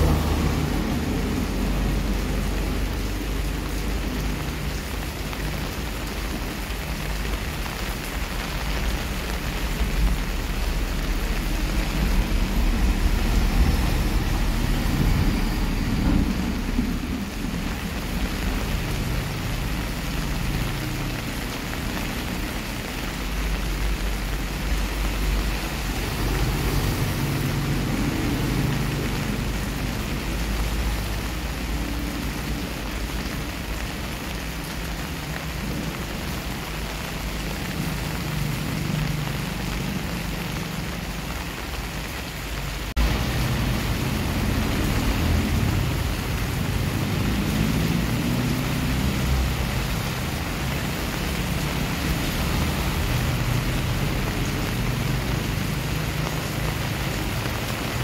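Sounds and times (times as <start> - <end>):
rain falling on pavement: 0.0 - 58.0.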